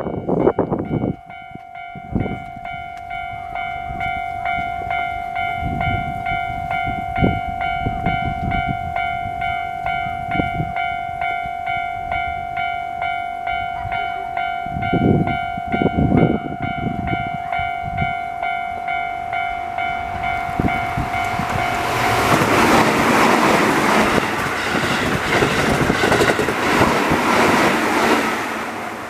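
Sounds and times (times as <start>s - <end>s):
level crossing warning bell: 0.0s - 28.8s.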